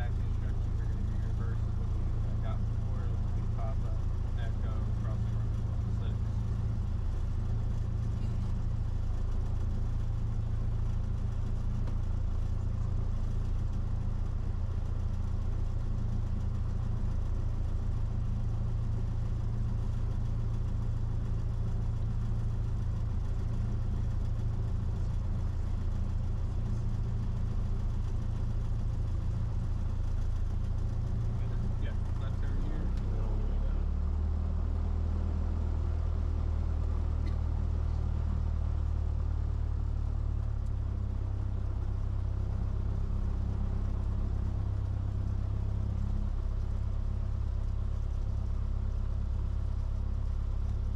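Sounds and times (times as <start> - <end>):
propeller plane engine droning: 0.0 - 50.9.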